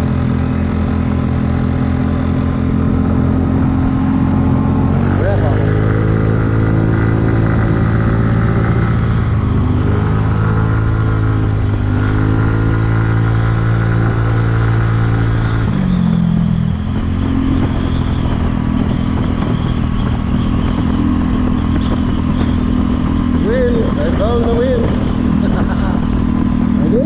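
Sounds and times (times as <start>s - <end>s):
scooter engine running: 0.0s - 27.0s.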